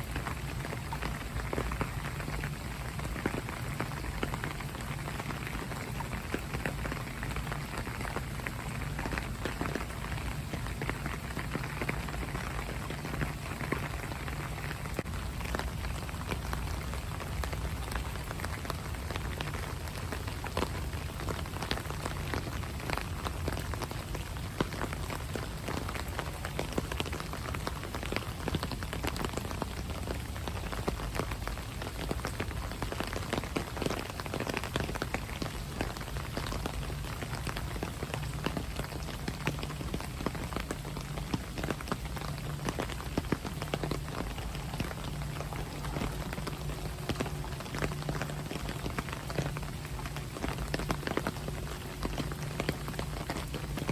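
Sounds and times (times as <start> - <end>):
raindrops tapping on surface: 0.0 - 53.9
steady rain falling: 0.0 - 53.9.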